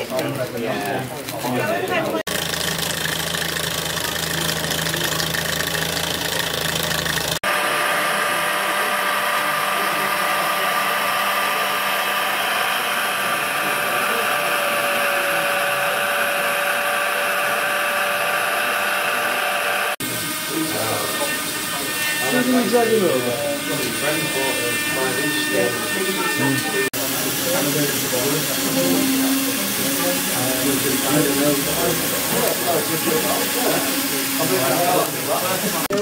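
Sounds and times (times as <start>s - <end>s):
model engine high whine: 0.0s - 36.0s
toy steam engine running: 0.0s - 36.0s.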